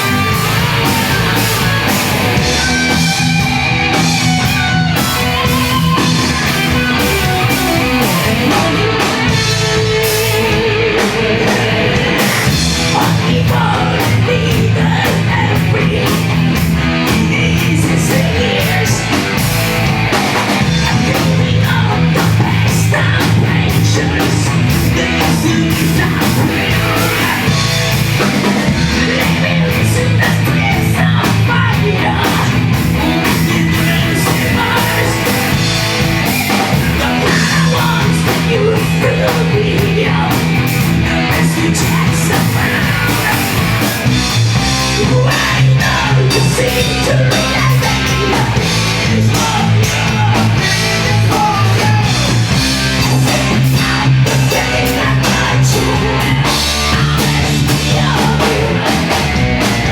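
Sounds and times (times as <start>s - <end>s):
bass guitar: 0.0s - 59.9s
distorted guitars: 0.0s - 59.9s
drums: 0.0s - 59.9s.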